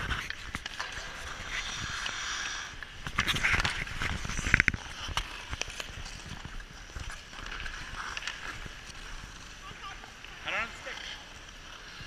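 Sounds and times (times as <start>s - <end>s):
skate blades scraping ice: 0.0s - 12.0s.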